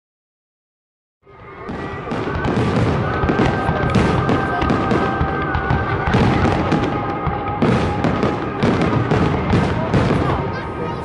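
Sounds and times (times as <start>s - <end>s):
fireworks bangs: 1.3s - 11.0s
fireworks crackling and popping: 1.3s - 11.0s.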